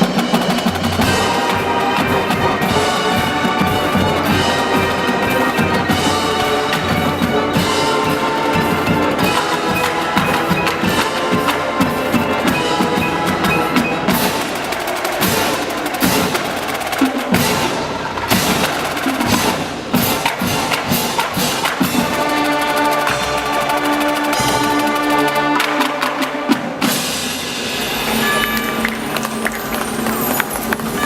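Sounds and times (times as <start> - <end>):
drum strikes: 0.0 - 29.9
marching band held chords: 0.0 - 31.0.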